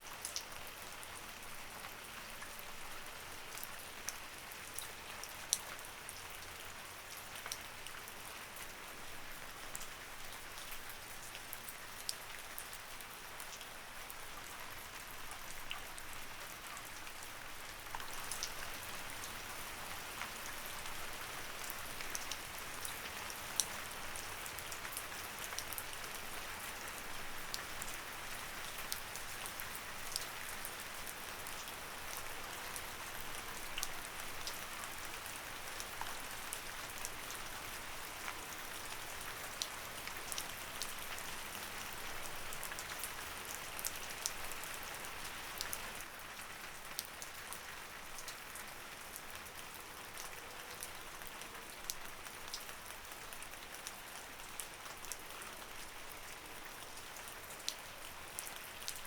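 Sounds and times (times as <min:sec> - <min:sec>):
light rain hiss: 0:00.0 - 0:59.0
raindrops ticking on surface: 0:00.1 - 0:59.0.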